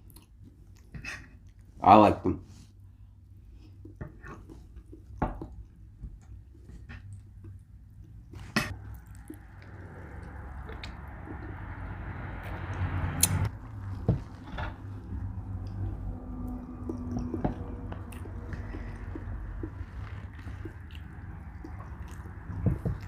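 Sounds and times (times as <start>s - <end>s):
wet chewing: 3.5s - 23.0s.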